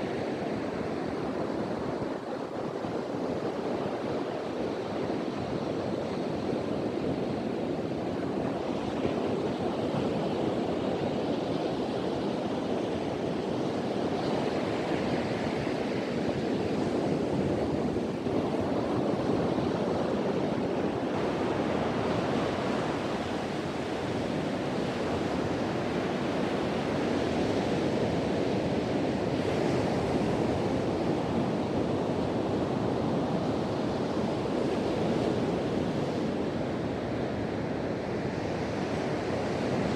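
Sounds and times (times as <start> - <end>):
ocean surf breaking on beach: 0.0 - 39.9
wind blowing across microphone: 0.0 - 39.9.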